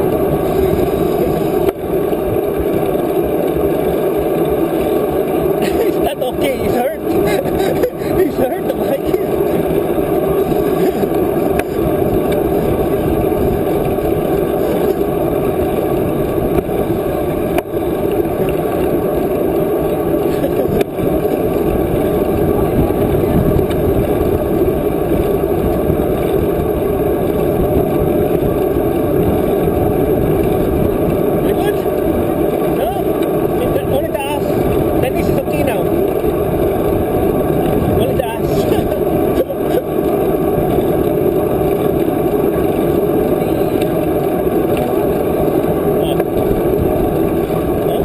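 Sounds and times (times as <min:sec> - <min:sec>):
wind rumble on microphone: 0:00.0 - 0:48.0.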